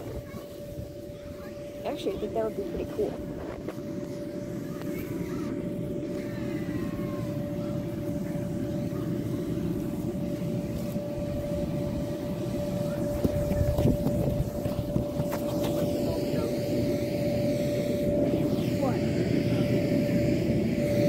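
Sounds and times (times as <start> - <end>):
engine drone with constant hum: 0.0 - 21.0.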